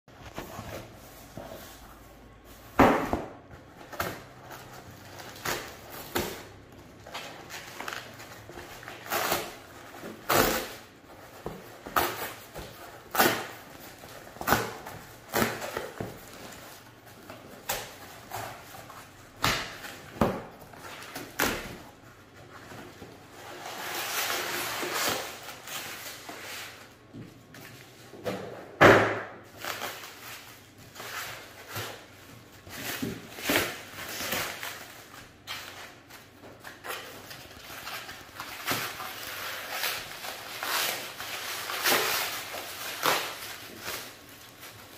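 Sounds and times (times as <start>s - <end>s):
plastic wrap and foam handling: 0.1s - 28.2s, 29.4s - 44.9s.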